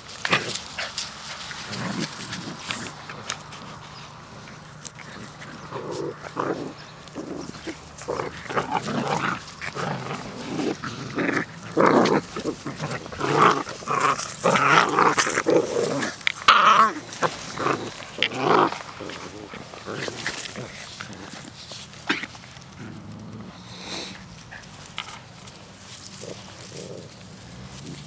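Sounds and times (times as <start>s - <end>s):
puppies growling and yipping: 0.0s - 28.0s.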